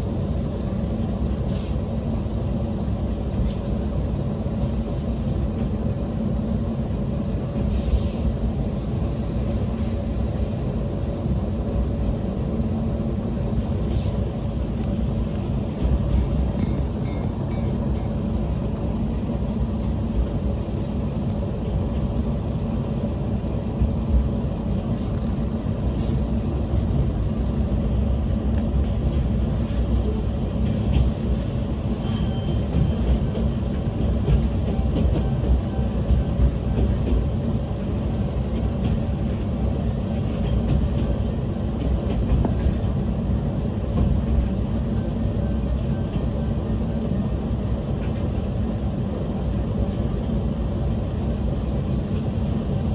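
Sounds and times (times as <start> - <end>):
diesel railcar rumble: 0.0 - 52.9.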